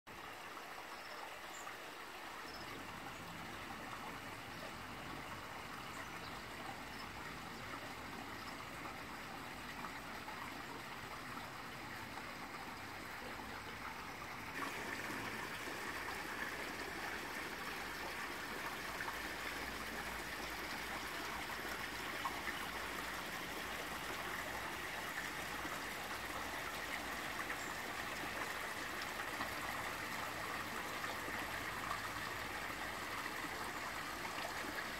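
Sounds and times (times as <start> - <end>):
water trickling and splashing: 0.1 - 34.9.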